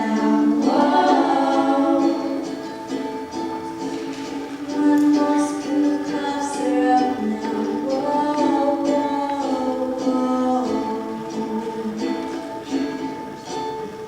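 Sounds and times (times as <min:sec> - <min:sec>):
group singing in close harmony: 0:00.0 - 0:14.0.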